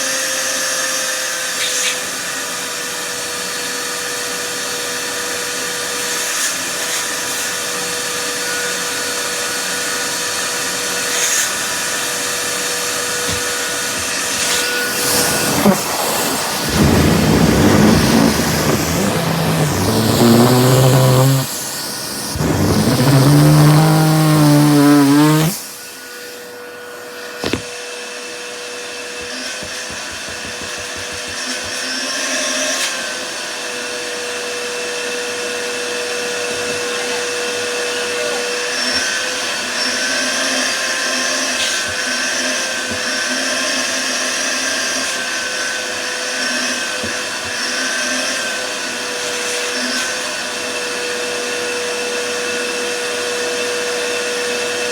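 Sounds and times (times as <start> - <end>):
vacuum cleaner motor: 0.0 - 54.9.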